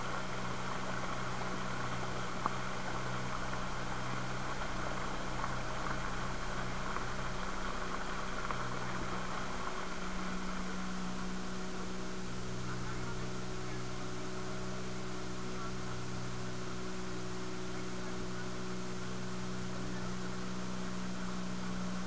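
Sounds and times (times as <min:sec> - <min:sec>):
outboard motor drone: 0:00.0 - 0:22.0
water rushing along hull: 0:00.0 - 0:22.0.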